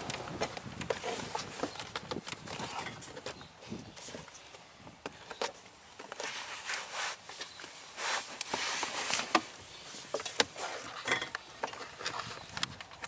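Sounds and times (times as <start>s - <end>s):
plastic rubbing and scraping: 0.0s - 4.4s, 5.1s - 13.0s.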